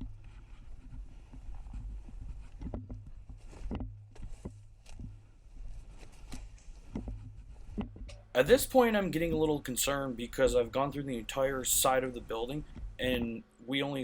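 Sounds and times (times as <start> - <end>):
footsteps: 0.0 - 13.4
low steady rumble: 0.0 - 14.0.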